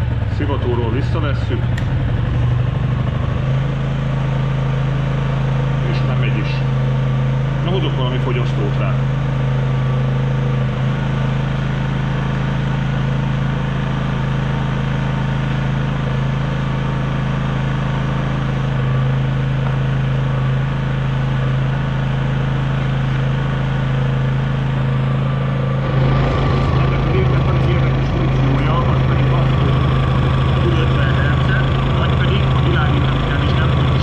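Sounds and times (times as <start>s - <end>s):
generator engine humming: 0.0s - 34.0s.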